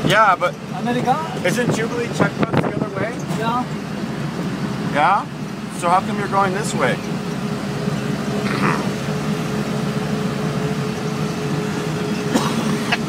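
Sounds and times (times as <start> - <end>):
auto-rickshaw engine running: 0.0 - 13.0
road noise: 0.0 - 13.0.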